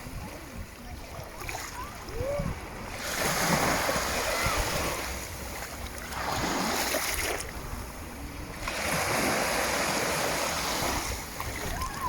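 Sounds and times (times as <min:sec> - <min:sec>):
waves washing in: 0:00.0 - 0:12.0.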